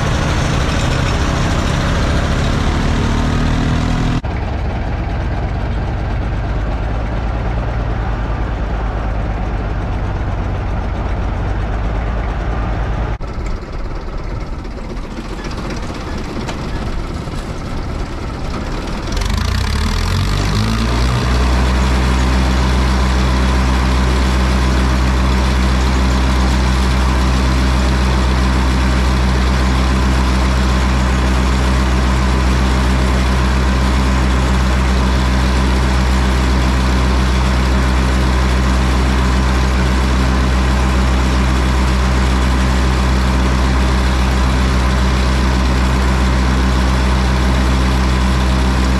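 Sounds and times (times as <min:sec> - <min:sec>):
tractor engine revving: 0:00.0 - 0:48.9.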